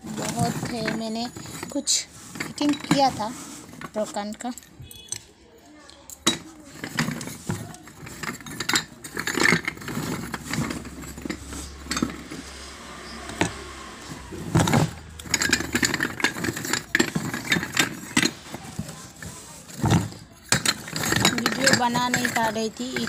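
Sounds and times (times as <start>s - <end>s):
clay cups clinking: 0.0s - 13.7s, 14.4s - 23.0s.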